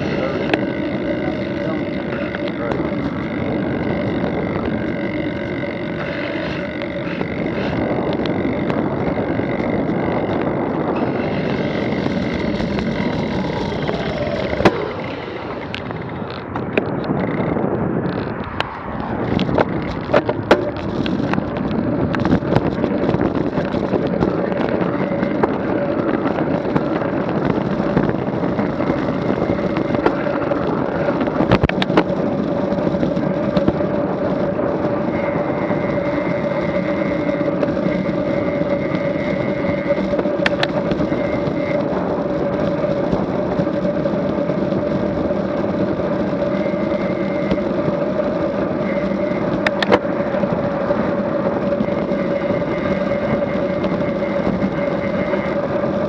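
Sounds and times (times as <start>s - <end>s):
bike humming in motion: 0.0s - 56.0s.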